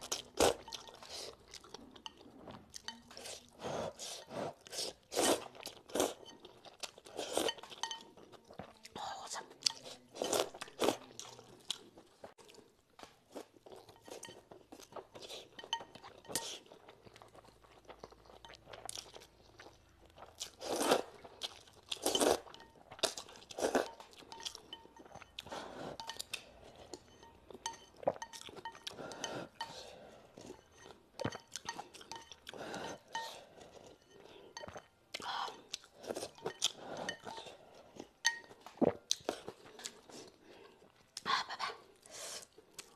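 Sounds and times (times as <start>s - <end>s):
person slurping and chewing noodles: 0.0s - 12.7s, 13.3s - 42.9s.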